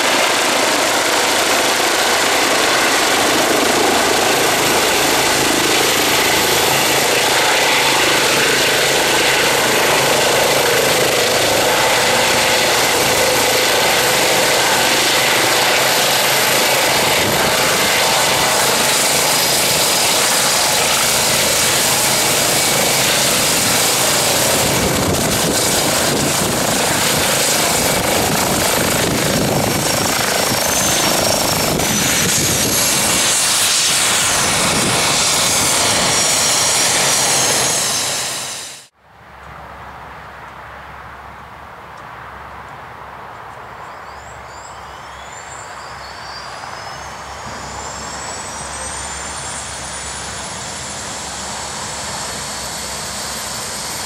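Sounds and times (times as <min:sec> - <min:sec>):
helicopter rotor and turbine roar: 0:00.0 - 0:38.9, 0:44.9 - 0:54.0.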